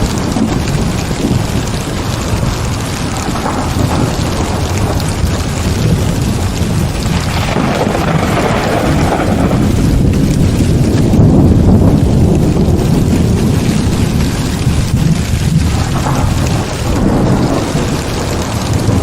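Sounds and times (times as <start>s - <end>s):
heavy rain falling: 0.0s - 19.0s
thunder rumbling: 0.0s - 19.0s.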